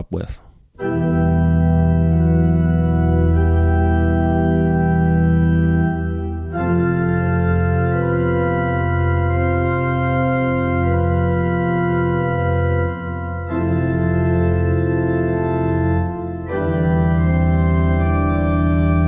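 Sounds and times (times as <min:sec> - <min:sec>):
organ sustained chords: 0:00.8 - 0:19.0.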